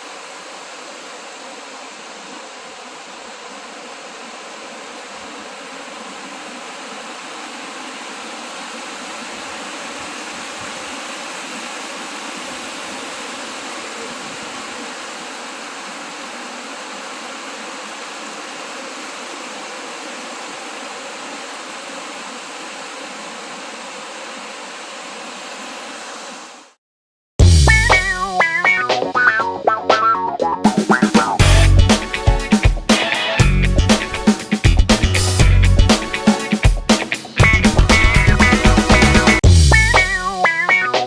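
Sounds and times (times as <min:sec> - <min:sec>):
waterfall rushing: 0:00.0 - 0:26.8, 0:30.9 - 0:40.8.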